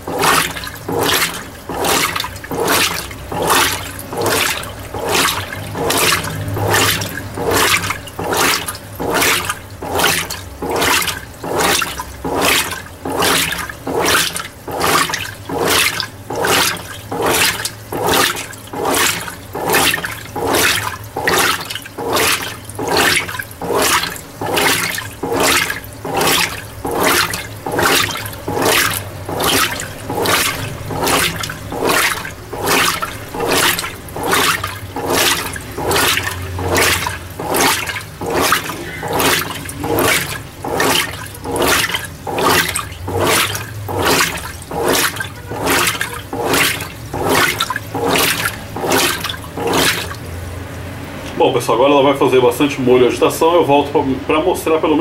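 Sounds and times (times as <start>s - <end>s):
washing machine water sloshing: 0.0s - 55.0s.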